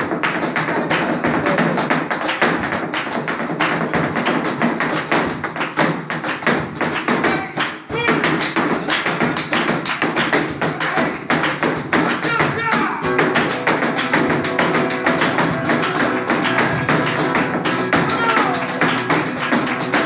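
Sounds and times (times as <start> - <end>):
dance shoes striking floor: 0.0 - 20.0
hand clapping: 0.0 - 20.0.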